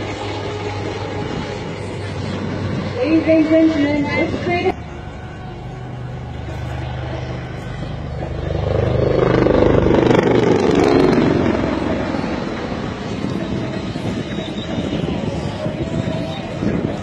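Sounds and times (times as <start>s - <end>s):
helicopters flying past: 0.0s - 17.0s.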